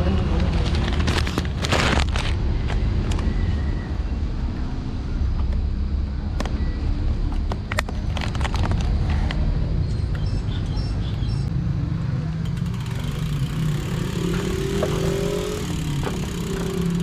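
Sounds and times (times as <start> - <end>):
low rumble of traffic: 0.0 - 17.0
vehicle engine humming: 0.0 - 17.0.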